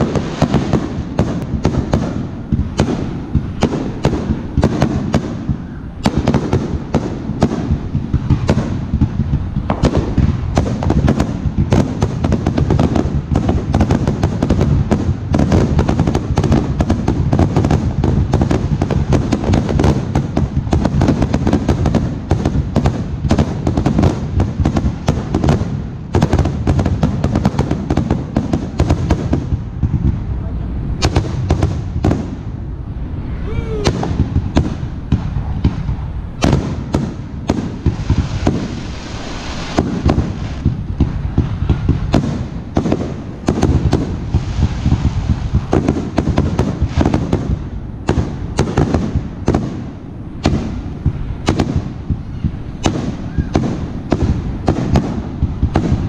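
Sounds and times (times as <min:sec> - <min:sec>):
low rumble: 0:00.0 - 0:27.3, 0:28.2 - 0:56.0
fireworks bursting: 0:00.0 - 0:56.0.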